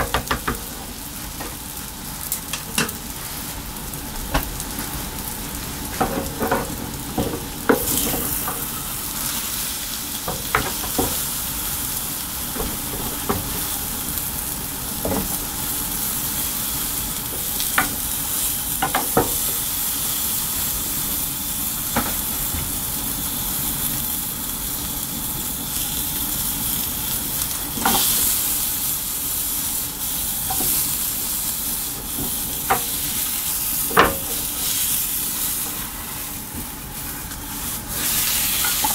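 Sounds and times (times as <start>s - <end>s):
food sizzling in frying pan: 0.0s - 38.9s.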